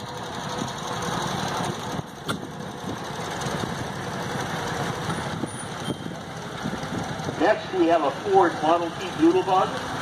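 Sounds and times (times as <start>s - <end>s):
tractor engines chugging: 0.0s - 10.0s.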